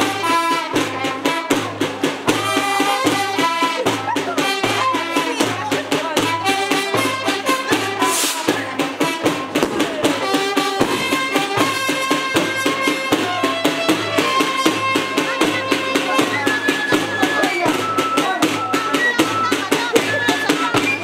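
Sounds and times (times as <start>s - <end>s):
music with fast percussive beat: 0.0s - 21.0s.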